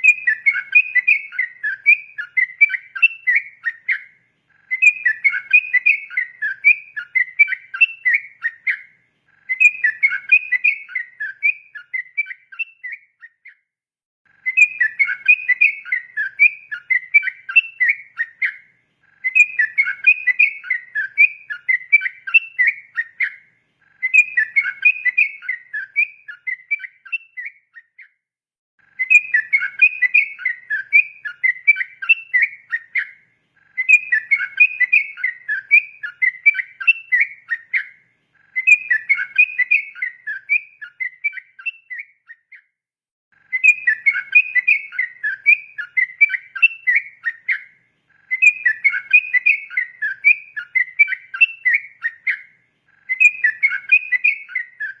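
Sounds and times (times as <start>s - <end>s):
bird singing bubbly chattering song: 0.0s - 13.6s, 14.3s - 28.2s, 28.8s - 42.7s, 43.4s - 55.0s.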